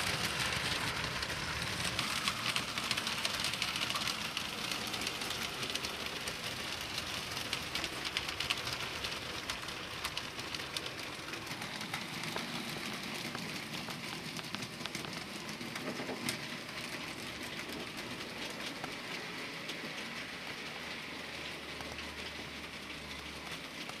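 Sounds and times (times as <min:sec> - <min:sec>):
model train wheels clicking on rails: 0:00.0 - 0:24.0.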